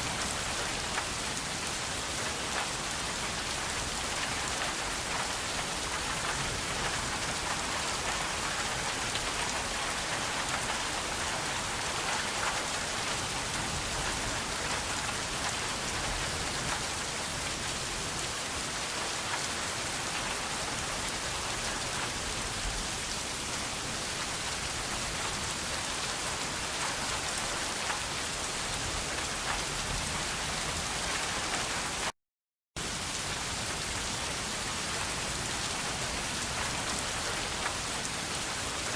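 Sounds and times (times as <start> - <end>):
steady rain falling: 0.0 - 32.2, 32.8 - 38.9.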